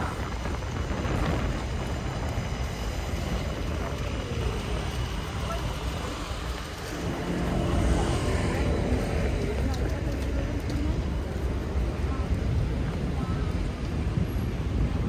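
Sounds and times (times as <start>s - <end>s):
faint voices of passers-by: 0.0s - 15.0s
low traffic rumble: 0.0s - 15.0s.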